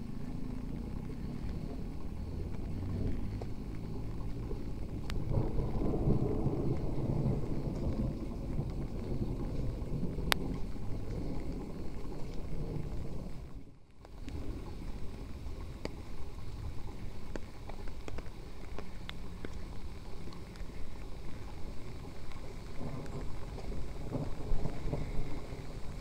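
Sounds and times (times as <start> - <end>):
faint rain ticks: 0.0 - 26.0
low outdoor rumble: 0.0 - 26.0.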